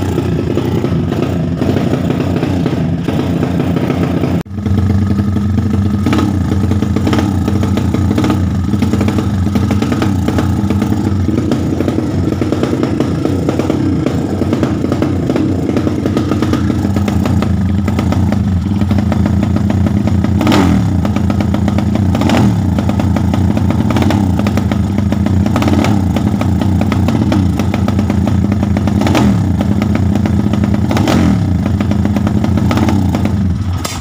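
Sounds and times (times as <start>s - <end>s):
exhaust pops: 0.0s - 34.0s
motorcycle engine running: 0.0s - 34.0s.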